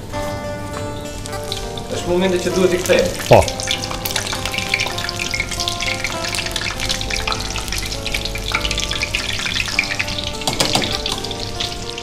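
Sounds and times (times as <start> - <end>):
chicken sizzling in hot oil: 0.8 - 12.0.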